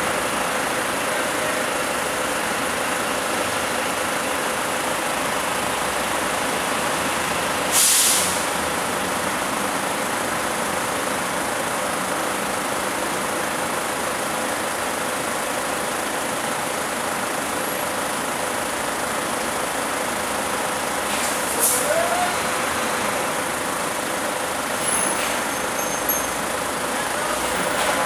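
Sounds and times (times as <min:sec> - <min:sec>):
vehicles idling in traffic: 0:00.0 - 0:28.0.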